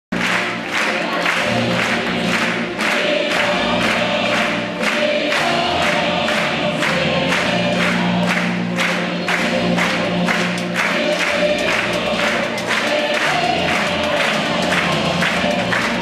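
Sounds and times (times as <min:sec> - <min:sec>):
music with steady beat: 0:00.1 - 0:16.0
voices singing: 0:00.7 - 0:16.0.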